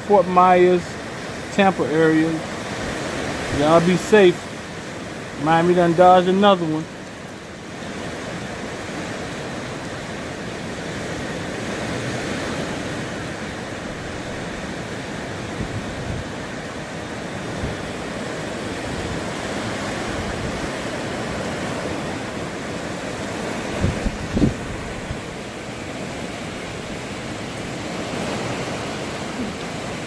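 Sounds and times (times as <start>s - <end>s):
wind gusts buffeting microphone: 0.0s - 6.8s, 7.5s - 30.0s.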